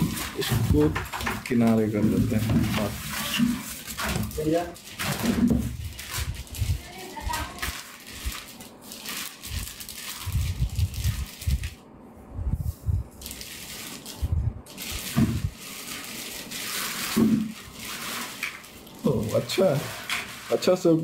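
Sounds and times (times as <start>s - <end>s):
plastic bag rustling and crinkling: 0.0s - 11.8s, 12.6s - 21.0s.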